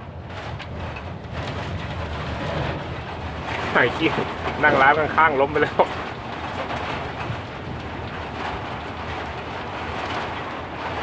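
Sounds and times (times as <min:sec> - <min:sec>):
storm wind blowing hard: 0:00.0 - 0:11.0.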